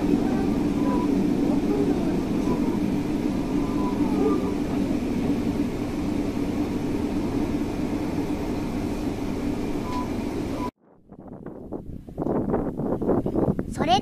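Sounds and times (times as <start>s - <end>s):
railcar engine drone: 0.0s - 13.7s
wind buffeting microphone: 0.0s - 14.0s.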